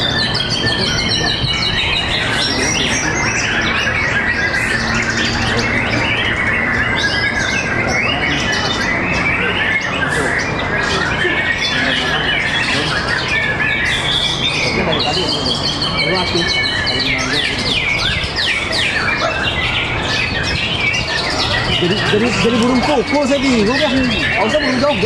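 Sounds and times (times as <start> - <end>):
birds singing chorus: 0.0 - 25.0
steady low hum: 0.0 - 25.0.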